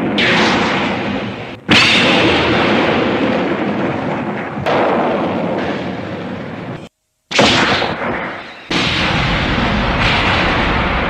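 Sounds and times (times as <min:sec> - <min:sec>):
explosion sound effect blasts: 0:00.0 - 0:11.0.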